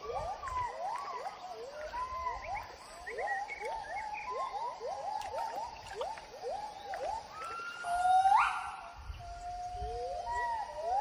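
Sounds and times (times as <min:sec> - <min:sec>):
gibbon whooping calls: 0:00.0 - 0:11.0.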